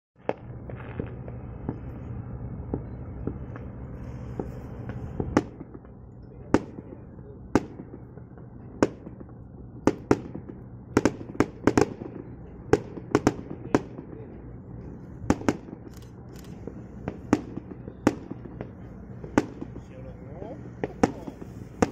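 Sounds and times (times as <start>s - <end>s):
firecrackers banging: 0.2s - 21.9s
steady low rumble: 0.2s - 21.9s.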